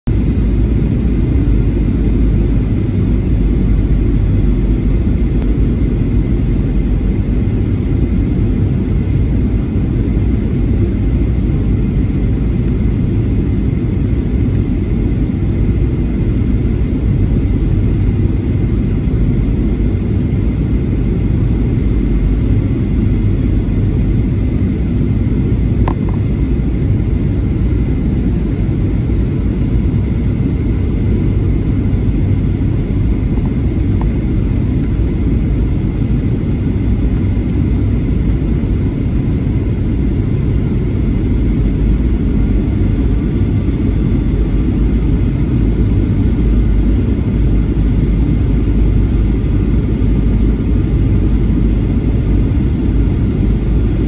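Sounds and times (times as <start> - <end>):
jet engines and rushing air: 0.1 - 54.0.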